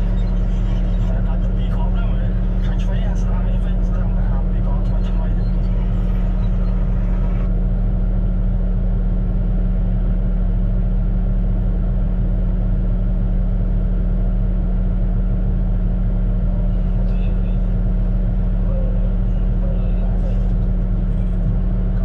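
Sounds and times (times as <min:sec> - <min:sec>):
bulldozer diesel engine humming: 0:00.0 - 0:22.0.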